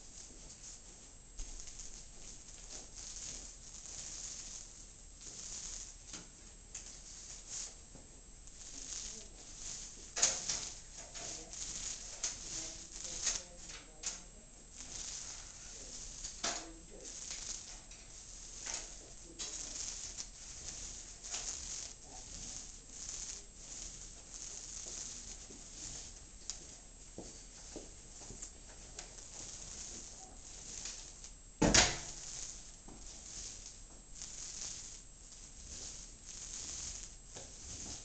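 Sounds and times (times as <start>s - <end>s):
paint roller hissing strokes: 0.0s - 38.0s.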